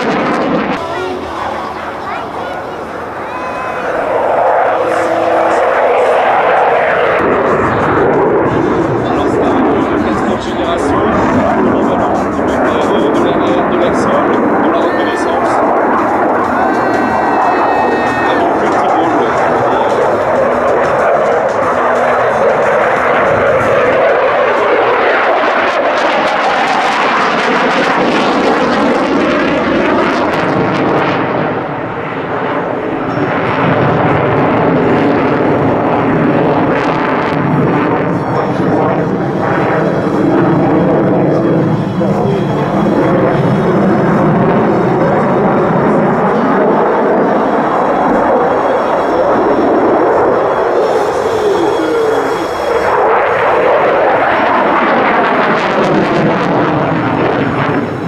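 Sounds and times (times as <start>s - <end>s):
fighter jet engines roaring: 0.0s - 58.0s.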